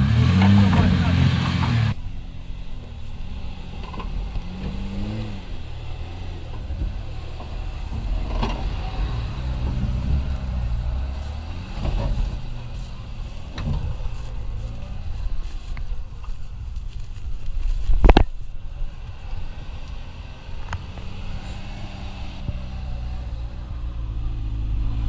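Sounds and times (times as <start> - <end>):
truck engine under load: 0.0 - 25.0.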